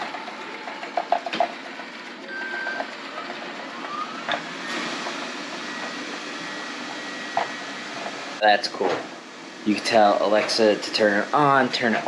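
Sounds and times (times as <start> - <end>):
robot vacuum humming: 0.0 - 12.0
rising whine: 2.3 - 12.0.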